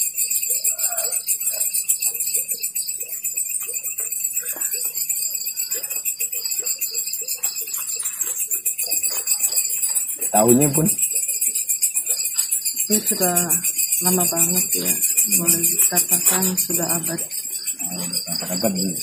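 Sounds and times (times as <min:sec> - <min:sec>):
faint lower insect notes: 0:00.0 - 0:19.0
insects trilling: 0:00.0 - 0:19.0.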